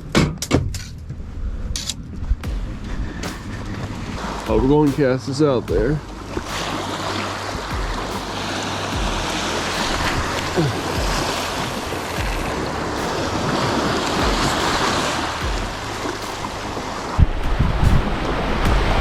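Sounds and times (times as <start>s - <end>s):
wind buffeting microphone: 0.0s - 19.0s
waves washing ashore: 2.7s - 19.0s.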